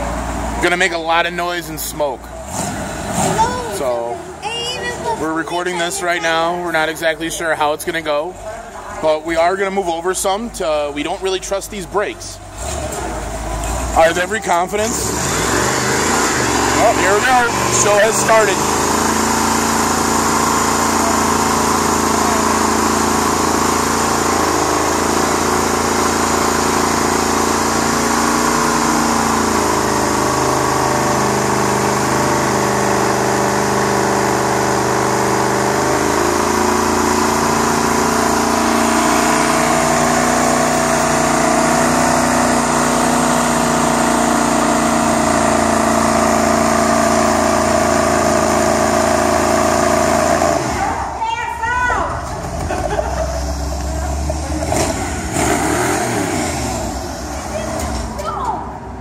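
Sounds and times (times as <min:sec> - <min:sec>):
truck engine revving: 0:00.0 - 0:51.2, 0:52.0 - 0:59.0.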